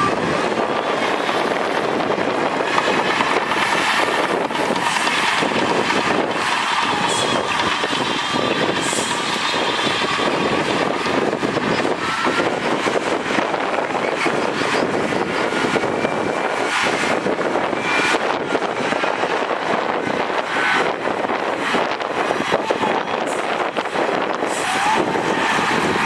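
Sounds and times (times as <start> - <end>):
diesel machinery engine: 0.0 - 26.0.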